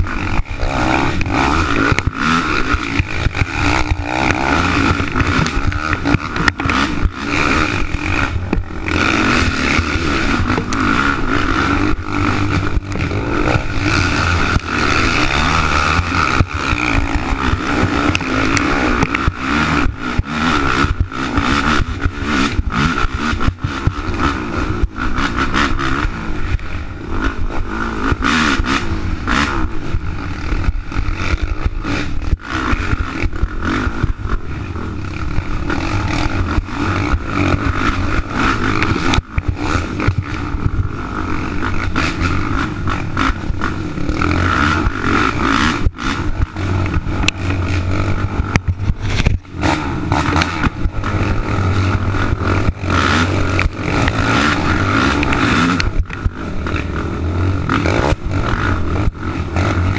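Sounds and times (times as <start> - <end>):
quad engine running hard: 0.0 - 59.9.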